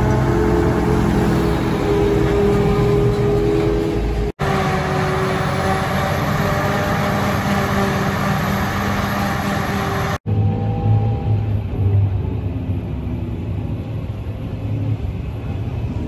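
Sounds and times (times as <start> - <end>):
farm machinery drone: 0.0 - 15.8.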